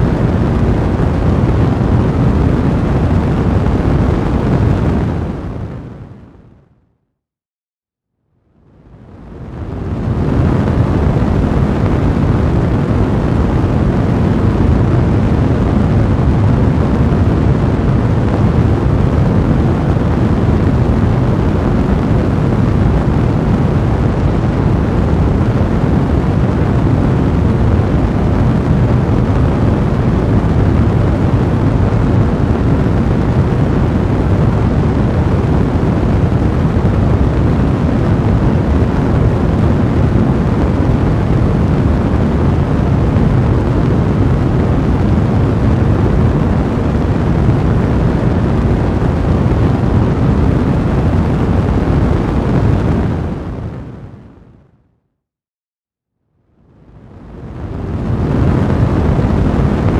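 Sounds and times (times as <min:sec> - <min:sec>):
fireplace fire blazing: 0:00.0 - 0:06.0, 0:09.1 - 0:54.0.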